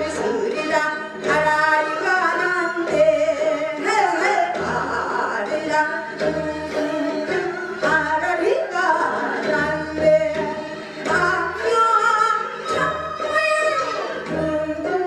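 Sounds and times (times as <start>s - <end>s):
woman singing into microphone: 0.0s - 15.0s.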